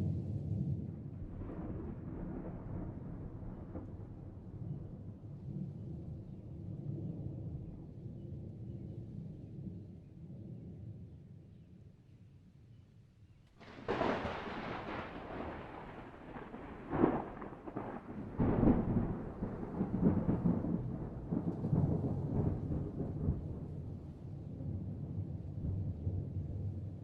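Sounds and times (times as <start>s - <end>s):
thunder crack and rumble: 0.0s - 8.6s, 13.6s - 27.0s.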